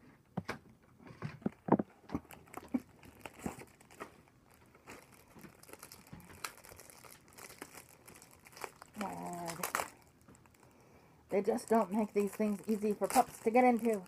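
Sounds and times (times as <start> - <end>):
plastic packaging crinkling: 1.4 - 14.0.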